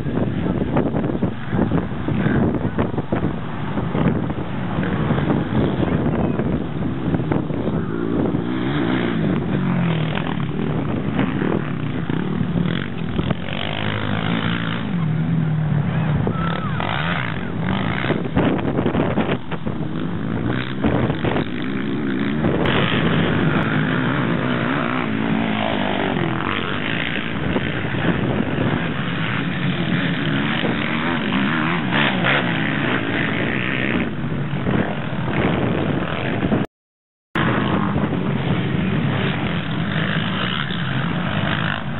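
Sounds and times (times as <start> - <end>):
quad engines revving: 0.0 - 36.7, 37.4 - 41.9.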